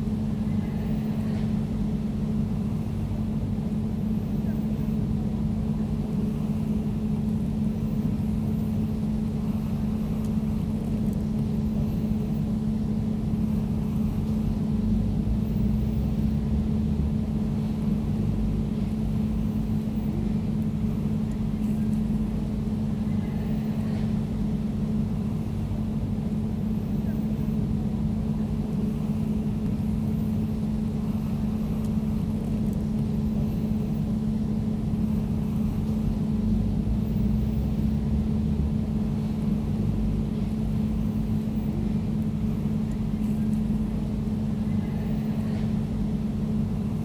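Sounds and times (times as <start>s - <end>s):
air conditioner humming: 5.1s - 47.0s.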